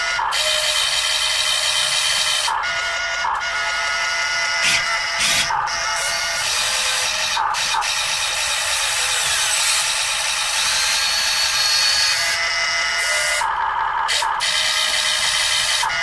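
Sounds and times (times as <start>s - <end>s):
electric motors whirring: 0.0s - 16.0s.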